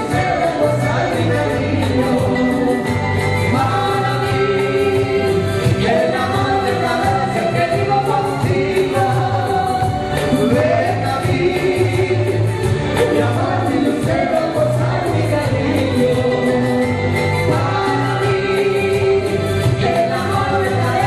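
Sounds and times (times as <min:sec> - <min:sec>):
live band music: 0:00.0 - 0:21.0
man singing: 0:00.0 - 0:21.0
woman singing: 0:00.0 - 0:21.0.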